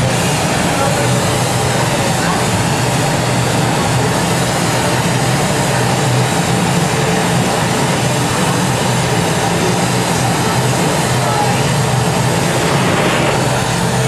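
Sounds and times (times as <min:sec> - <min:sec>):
gas torch flame roaring: 0:00.0 - 0:14.0.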